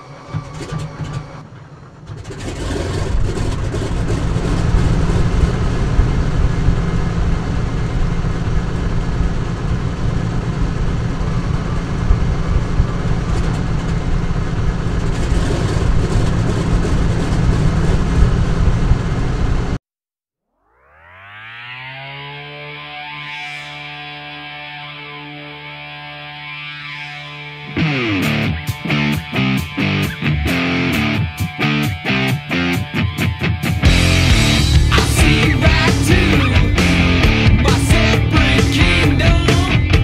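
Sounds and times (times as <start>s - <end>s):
aircraft engine rumbling: 0.0s - 19.8s, 21.3s - 40.0s.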